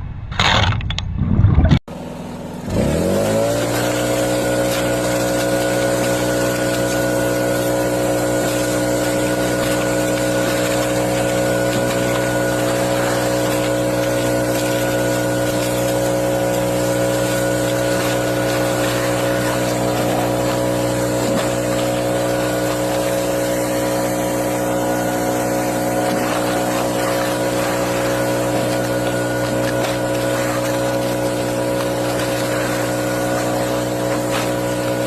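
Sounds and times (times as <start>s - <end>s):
motorboat engine drone: 1.9s - 35.0s.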